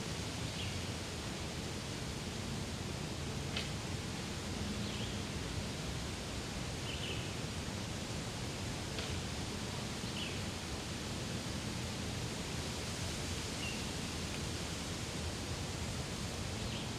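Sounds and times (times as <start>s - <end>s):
steady rustling hiss: 0.0s - 16.9s.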